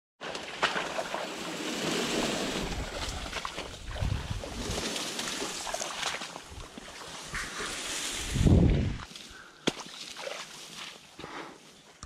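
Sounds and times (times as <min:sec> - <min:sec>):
dry stalks rustling: 0:00.2 - 0:11.8.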